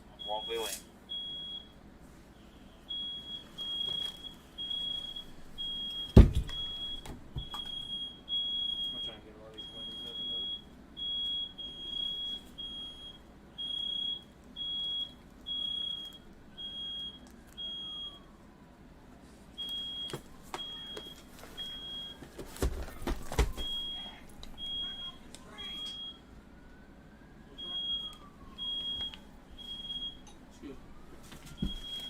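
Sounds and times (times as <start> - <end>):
smoke alarm beeping: 0.1 - 1.8, 2.4 - 18.3, 19.6 - 22.3, 22.9 - 26.3, 27.5 - 30.4, 31.0 - 32.0.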